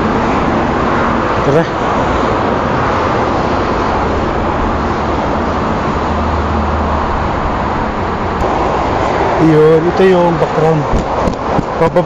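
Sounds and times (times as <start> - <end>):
loud rushing noise: 0.0 - 12.0.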